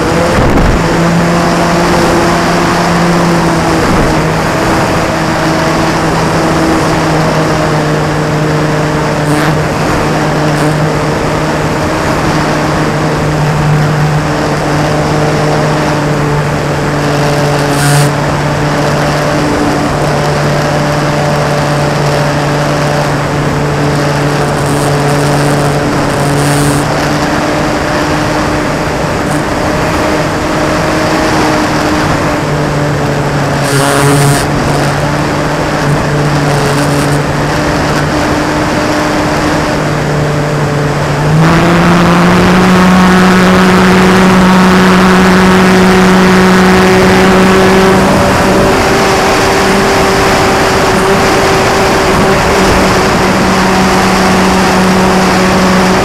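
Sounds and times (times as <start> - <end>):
electric motor and propeller whining: 0.0 - 56.0.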